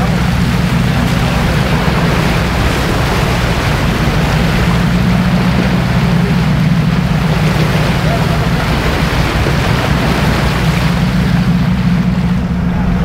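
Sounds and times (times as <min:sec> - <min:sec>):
motorboat engine running: 0:00.0 - 0:13.0
wake rushing and splashing: 0:00.0 - 0:13.0.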